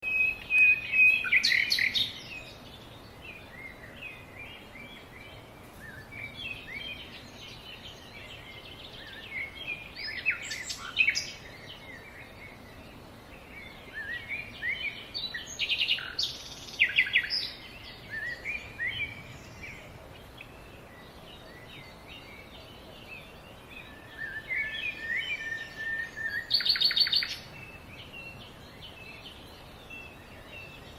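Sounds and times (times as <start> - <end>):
faint steady background hiss: 0.0 - 30.9
small songbirds chirping: 0.0 - 30.9.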